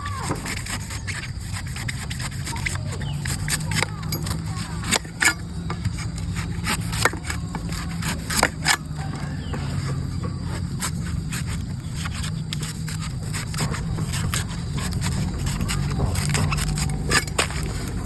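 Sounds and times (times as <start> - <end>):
blade cutting coconut: 0.0 - 18.0
steady low hum: 0.0 - 18.0.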